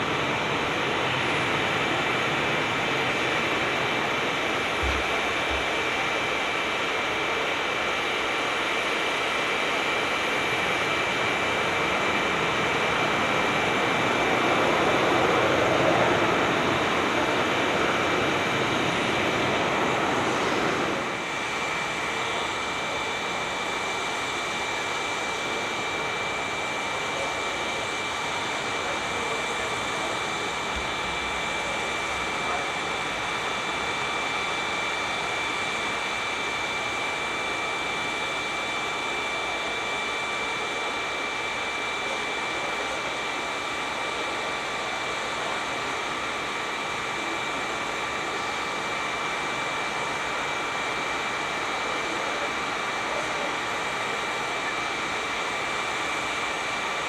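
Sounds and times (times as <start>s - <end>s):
aircraft engines running: 0.0s - 57.0s.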